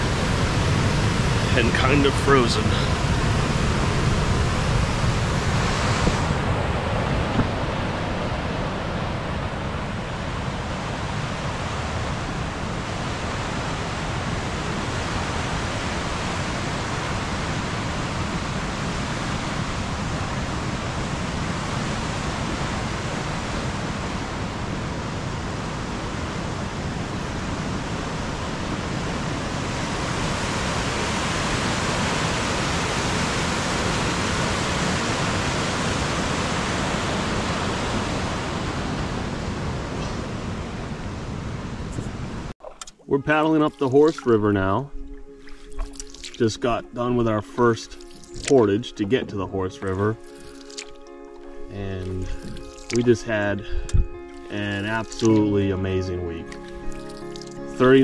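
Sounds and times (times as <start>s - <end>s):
waterfall rushing: 0.0s - 40.9s, 43.2s - 48.7s, 49.9s - 53.7s.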